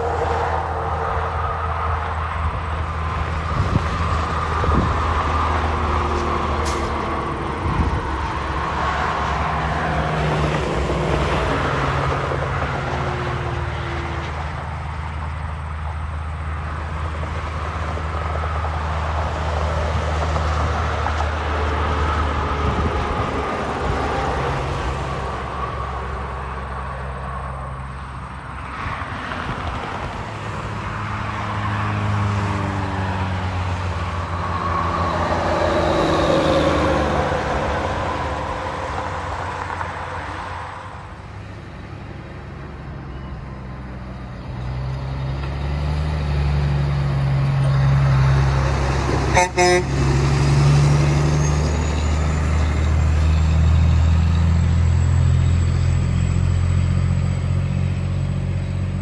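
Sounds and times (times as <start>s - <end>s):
truck diesel engine drone: 0.0s - 59.0s
tyre noise from passing cars: 0.0s - 59.0s.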